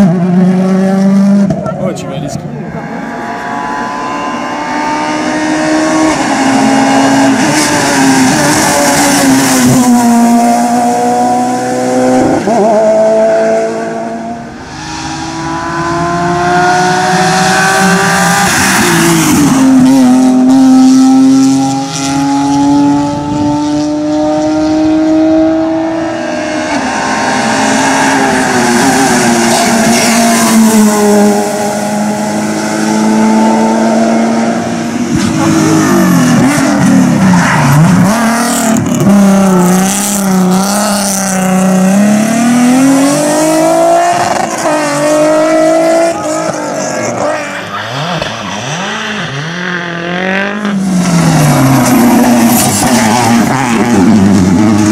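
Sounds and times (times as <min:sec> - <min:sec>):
racing car engines revving: 0:00.0 - 0:54.9.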